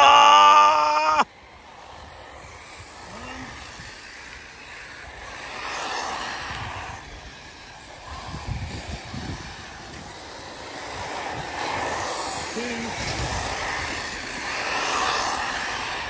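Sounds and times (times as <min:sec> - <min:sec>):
rc cars running on dirt: 0:00.0 - 0:16.0.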